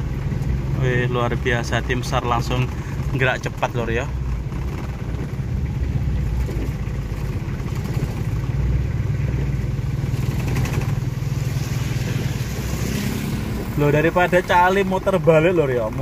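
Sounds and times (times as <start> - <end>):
road and air noise: 0.0 - 16.0
vehicle engine low rumble: 0.0 - 16.0.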